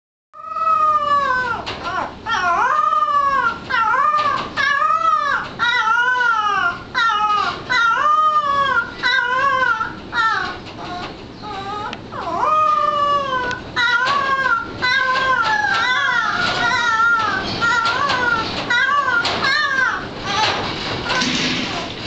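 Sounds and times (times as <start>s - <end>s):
puppy howling: 0.4s - 22.0s.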